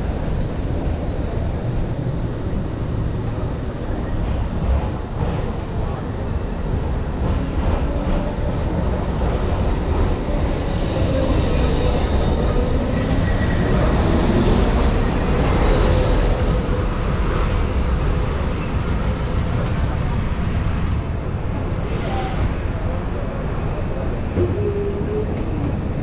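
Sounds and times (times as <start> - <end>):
tram wheels rumbling on rails: 0.0 - 26.0.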